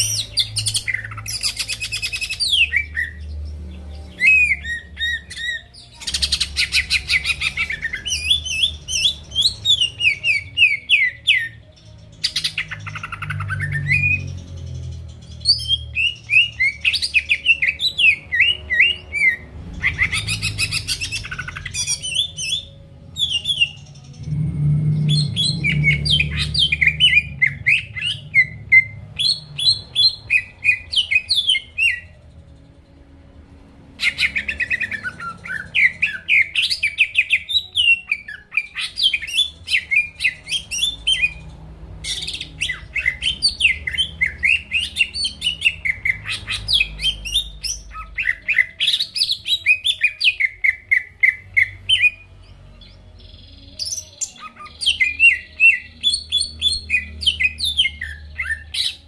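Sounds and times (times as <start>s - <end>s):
bird singing rapid chirps: 0.0s - 32.6s, 34.0s - 59.0s.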